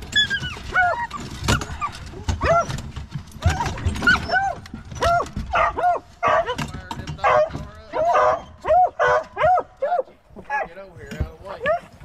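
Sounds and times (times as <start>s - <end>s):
dogs yelping: 0.0s - 10.8s, 11.5s - 12.0s.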